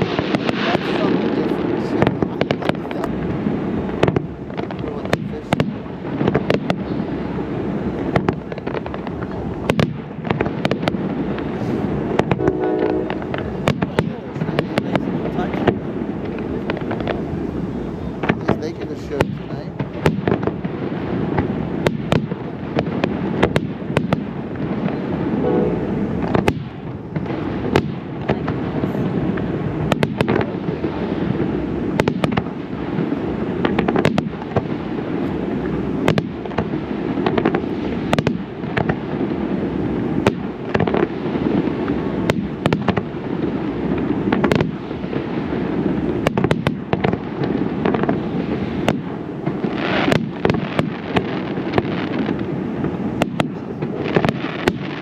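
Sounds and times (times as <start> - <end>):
rumble of firework bursts: 0.0 - 55.0
sharp firework bangs: 0.0 - 55.0.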